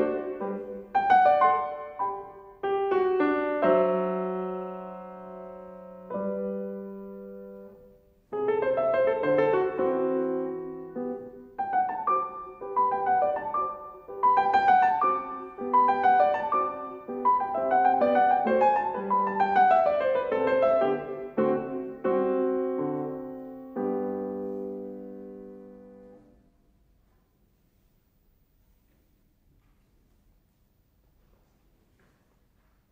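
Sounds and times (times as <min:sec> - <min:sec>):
grand piano playing: 0:00.0 - 0:26.6.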